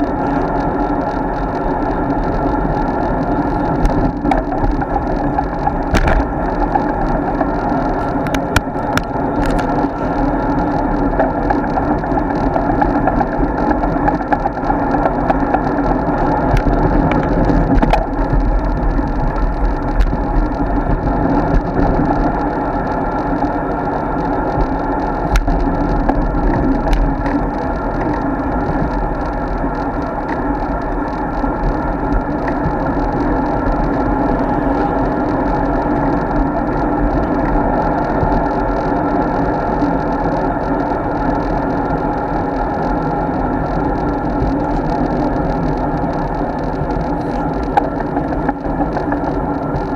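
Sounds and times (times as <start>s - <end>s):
wind and road noise: 0.0s - 49.9s.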